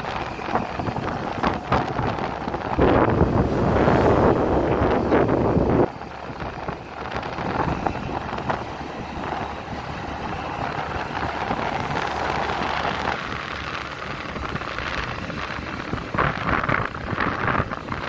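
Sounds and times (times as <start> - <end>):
road and engine rumble: 0.0 - 18.0
wind buffeting microphone: 0.0 - 18.0.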